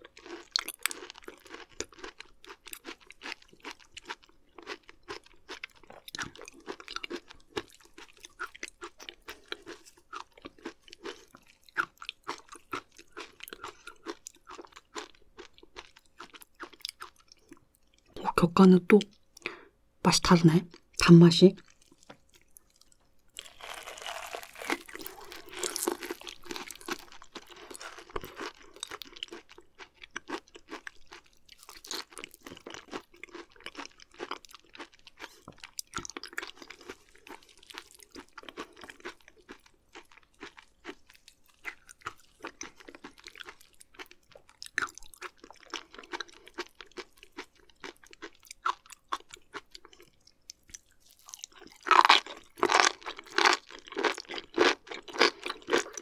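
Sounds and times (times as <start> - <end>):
chewing raw meat: 0.0 - 18.2, 21.6 - 56.0.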